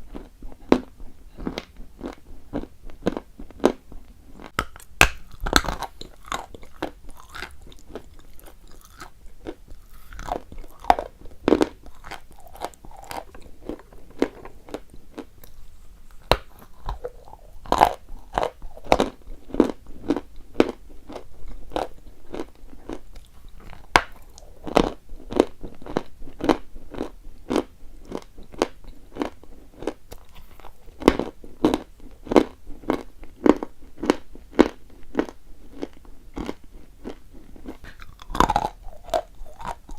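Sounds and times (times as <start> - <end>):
chalk crunching and chewing: 0.0 - 39.9.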